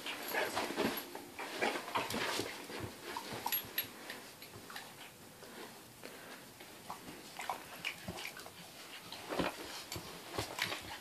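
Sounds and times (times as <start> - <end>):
dogs tussling on bedding: 0.0 - 4.9, 7.1 - 11.0.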